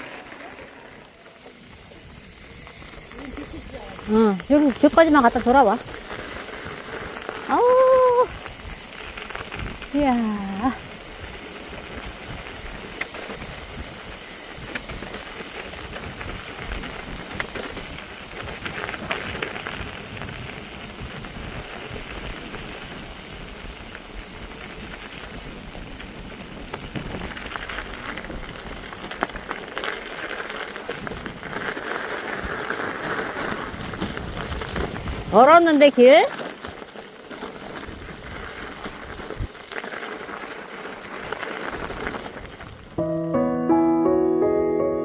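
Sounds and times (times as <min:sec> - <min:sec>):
tires crunching over snow: 0:00.0 - 0:43.0
steady hissing noise: 0:00.0 - 0:43.4.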